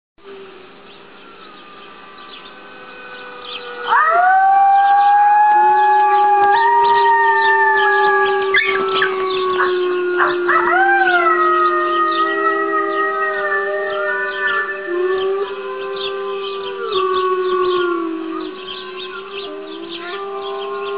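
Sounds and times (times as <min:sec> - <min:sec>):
puppy howling: 0:02.2 - 0:20.9.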